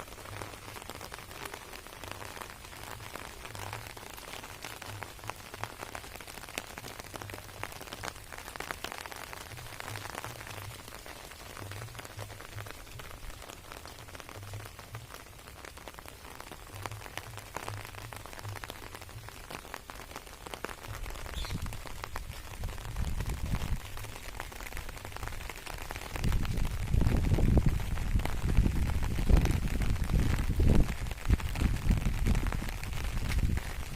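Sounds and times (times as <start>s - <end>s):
rain falling on plants: 0.0s - 33.9s.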